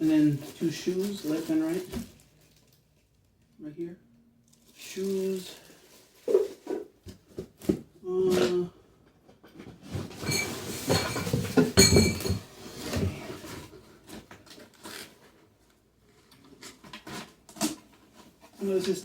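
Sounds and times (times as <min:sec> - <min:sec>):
packaging rustling and scraping: 0:00.0 - 0:03.1, 0:04.5 - 0:07.9, 0:09.6 - 0:19.0.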